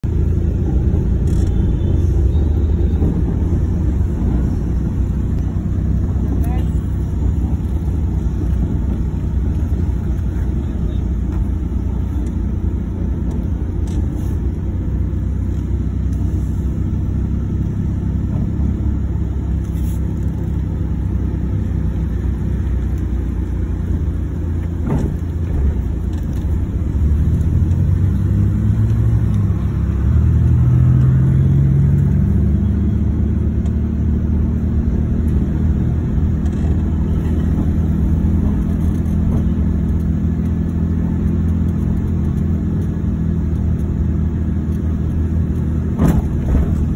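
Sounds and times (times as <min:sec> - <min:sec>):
car engine: 0:00.0 - 0:46.9
road rumble: 0:00.0 - 0:46.9.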